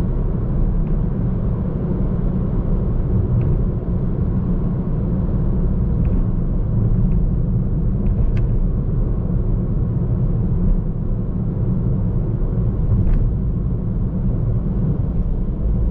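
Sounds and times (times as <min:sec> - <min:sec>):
car engine and tyre noise: 0:00.0 - 0:15.9.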